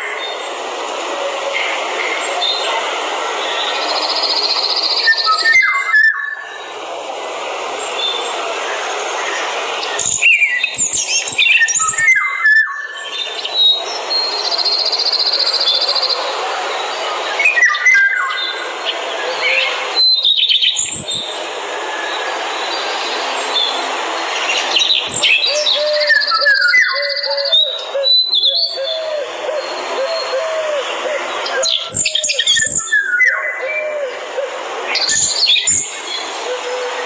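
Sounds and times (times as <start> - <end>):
forest birds chirping: 0.0 - 6.8, 7.4 - 37.0
forest ambience hiss: 0.0 - 37.0.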